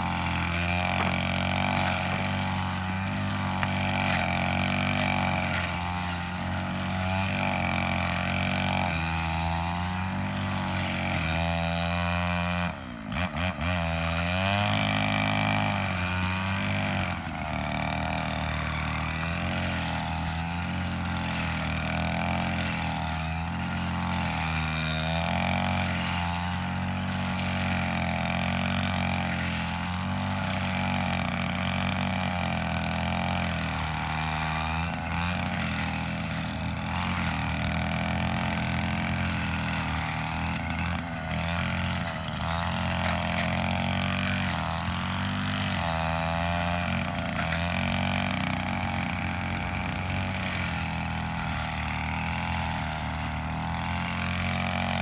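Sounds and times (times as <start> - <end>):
brush cutter engine cutting grass: 0.0 - 55.0.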